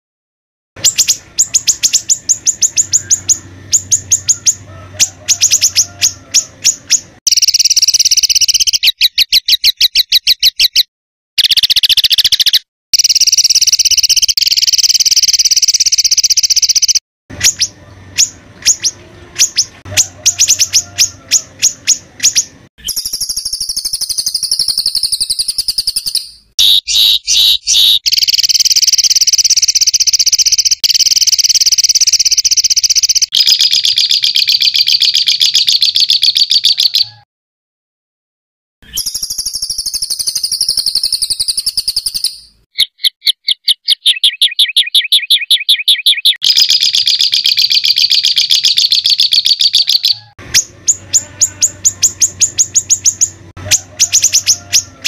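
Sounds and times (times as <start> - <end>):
songbird singing harsh phrases: 0.8 - 37.2, 38.8 - 55.0.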